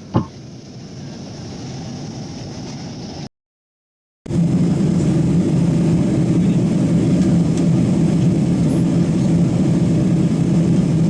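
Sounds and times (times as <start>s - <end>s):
aircraft cabin engine roar: 0.0s - 3.3s, 4.3s - 11.0s
constant low hum: 0.0s - 3.3s, 4.3s - 11.0s.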